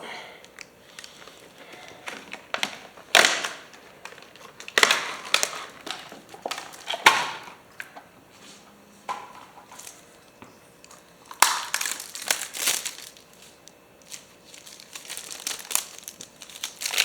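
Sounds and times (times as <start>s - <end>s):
packaging crinkling and rustling: 0.4s - 8.2s, 9.1s - 10.1s, 10.9s - 17.0s.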